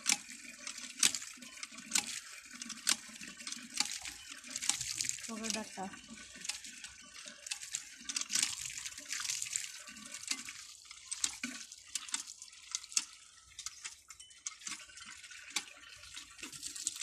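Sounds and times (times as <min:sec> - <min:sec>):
water splashing from hand pump: 0:00.0 - 0:17.0.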